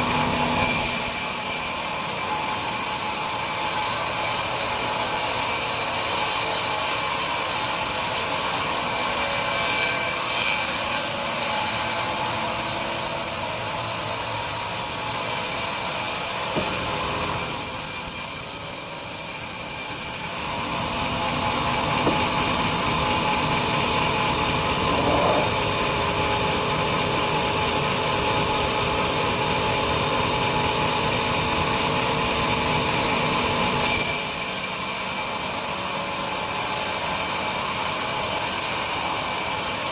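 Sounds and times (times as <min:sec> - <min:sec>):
bandsaw cutting log: 0:00.0 - 0:27.0, 0:32.6 - 0:39.9.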